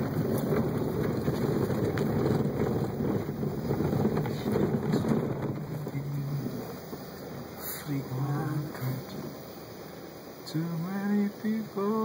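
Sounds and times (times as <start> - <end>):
car engine and tyre rumble: 0.0 - 12.0
wind noise on microphone: 0.0 - 12.0.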